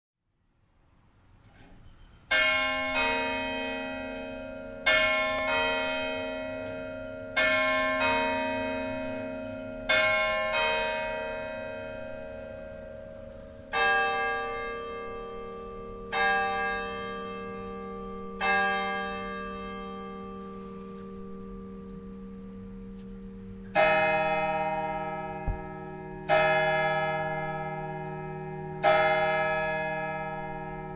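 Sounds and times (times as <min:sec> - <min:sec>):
deeper church bell ringing: 0:02.2 - 0:30.9
higher church bell striking: 0:02.3 - 0:30.9.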